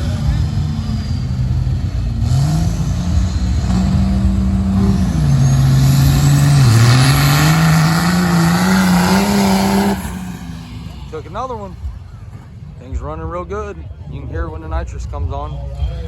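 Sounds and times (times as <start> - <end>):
diesel truck engine running hard: 0.0 - 16.0.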